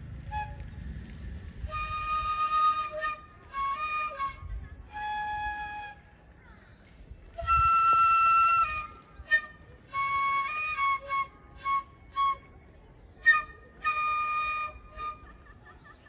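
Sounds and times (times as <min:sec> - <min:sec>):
solo flute playing slow notes: 0:00.0 - 0:06.2, 0:07.2 - 0:15.4.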